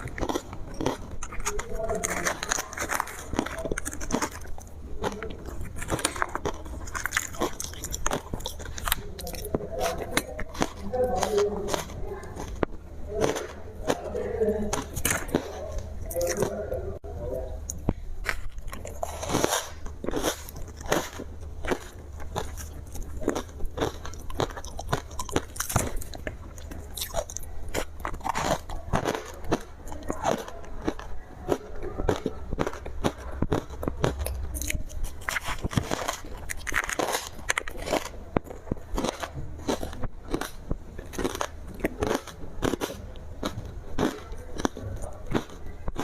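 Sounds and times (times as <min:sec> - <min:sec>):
chewing ice crunches: 0:00.0 - 0:16.7, 0:17.6 - 0:46.0
faint low hum: 0:00.0 - 0:46.0.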